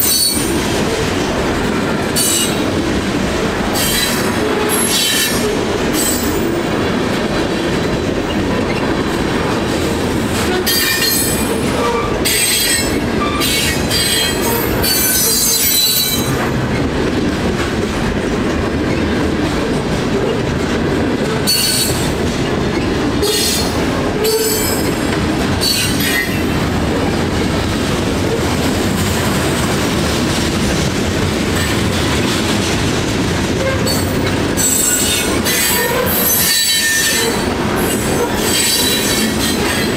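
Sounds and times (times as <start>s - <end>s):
freight train cars rumbling: 0.0s - 39.9s.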